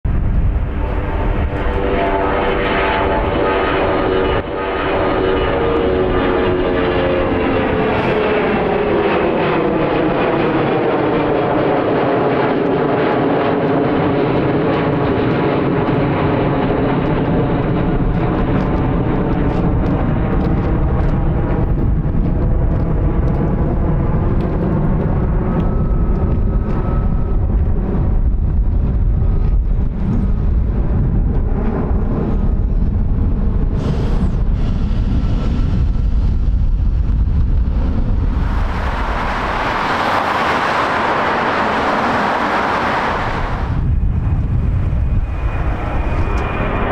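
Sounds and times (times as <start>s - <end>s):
jet engines rumbling overhead: 0.0s - 46.9s.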